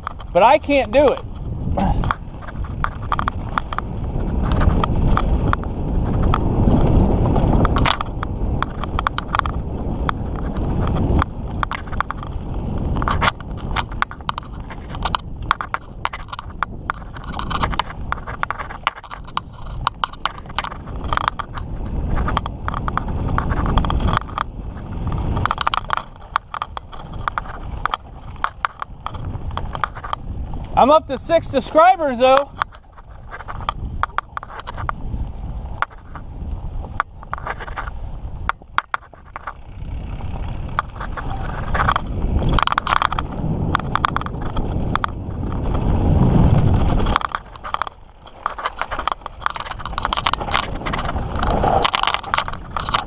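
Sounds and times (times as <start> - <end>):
bike rattling and knocking: 0.0 - 53.0
bike tyres rolling on dirt: 0.0 - 53.0.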